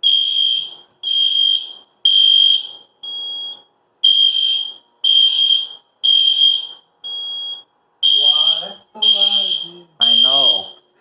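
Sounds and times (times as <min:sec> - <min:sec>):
fire alarm horn pulsing: 0:00.0 - 0:10.8.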